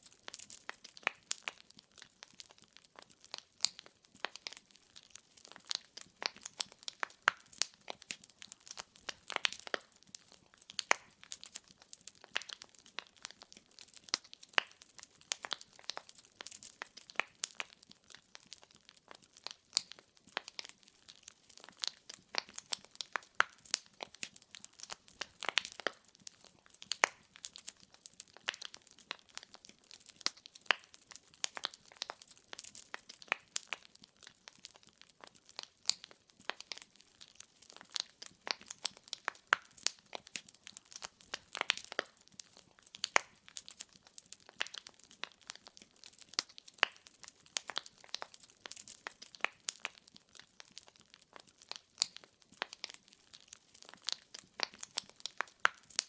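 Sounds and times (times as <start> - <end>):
logs crackling and popping: 0.0 - 56.0.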